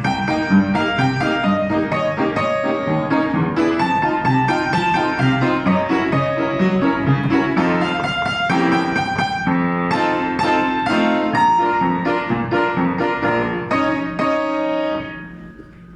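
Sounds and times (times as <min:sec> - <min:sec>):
piano playing chords: 0:00.0 - 0:15.9.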